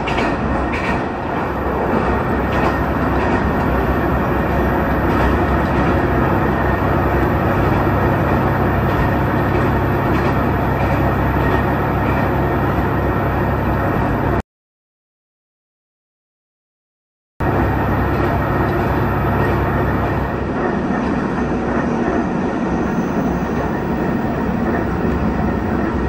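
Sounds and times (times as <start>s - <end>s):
train wheels and motor rumbling: 0.0s - 14.4s, 17.4s - 26.0s.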